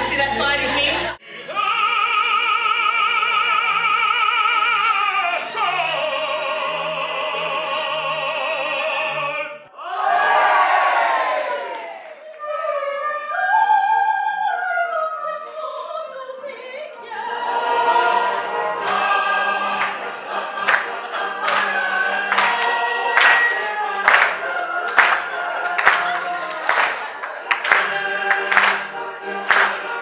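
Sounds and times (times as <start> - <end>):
opera singing: 0.0 - 9.6, 12.2 - 30.0.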